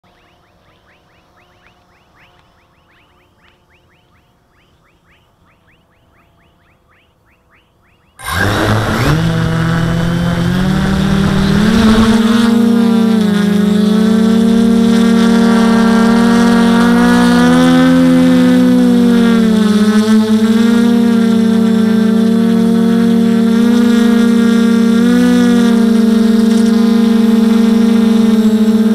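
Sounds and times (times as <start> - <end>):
quadcopter motors whining: 0.1 - 28.9.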